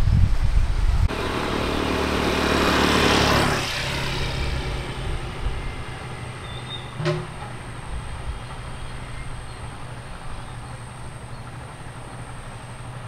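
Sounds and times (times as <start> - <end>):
low wind rumble: 0.0 - 13.0
vehicle passing by: 1.0 - 12.6.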